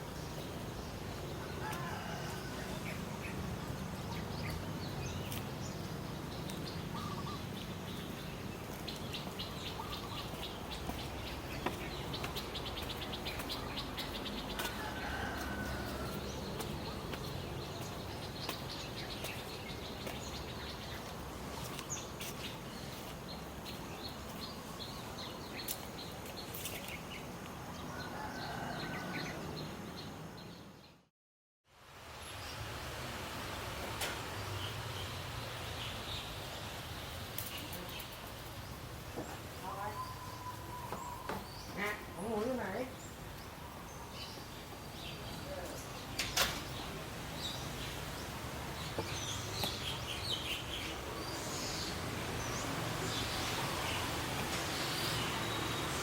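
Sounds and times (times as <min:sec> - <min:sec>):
birds chirping and trilling: 0:00.0 - 0:31.0, 0:37.4 - 0:56.0.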